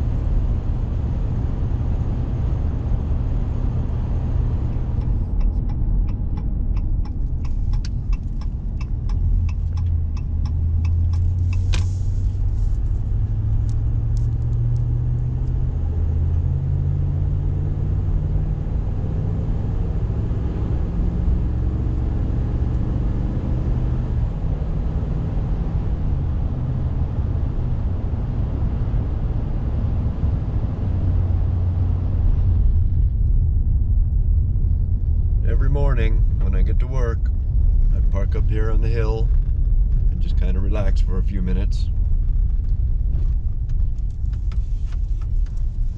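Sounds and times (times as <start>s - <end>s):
truck engine and road rumble: 0.0s - 45.9s.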